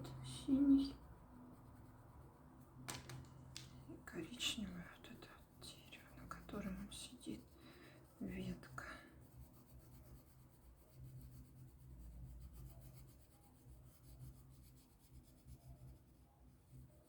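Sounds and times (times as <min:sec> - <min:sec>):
oil pastel rubbing on paper: 0:02.9 - 0:17.0.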